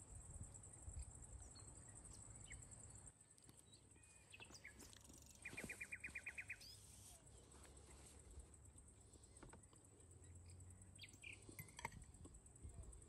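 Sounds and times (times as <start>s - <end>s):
faint bird chirps: 0.2s - 12.0s.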